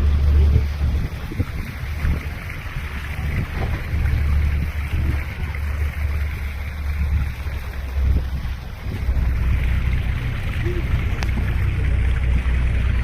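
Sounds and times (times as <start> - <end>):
low rumble aboard boat: 0.0 - 13.0
wind noise on microphone: 0.0 - 13.0.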